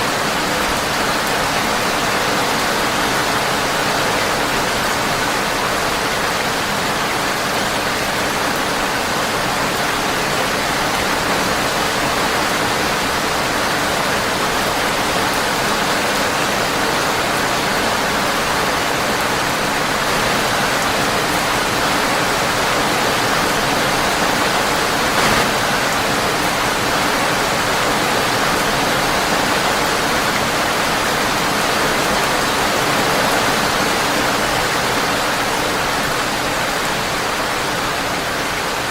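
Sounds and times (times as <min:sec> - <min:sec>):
rain on a windowpane: 0:00.0 - 0:38.9.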